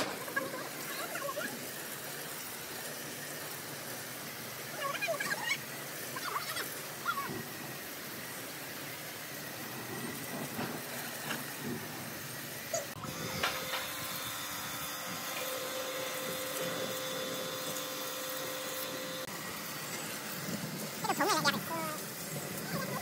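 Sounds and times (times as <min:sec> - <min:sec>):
low machine hum: 0:00.0 - 0:23.0
pressure washer spray hissing: 0:00.0 - 0:23.0.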